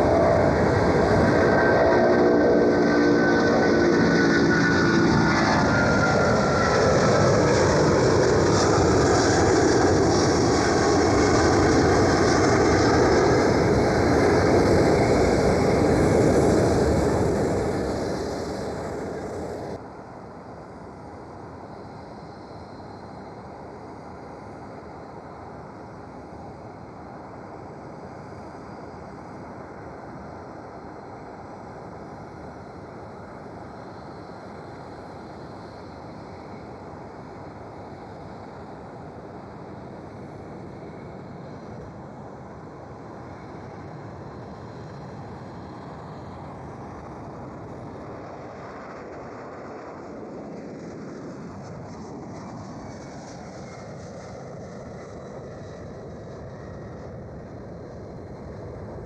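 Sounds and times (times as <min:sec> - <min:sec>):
jet aircraft passing close: 0:00.0 - 0:59.0.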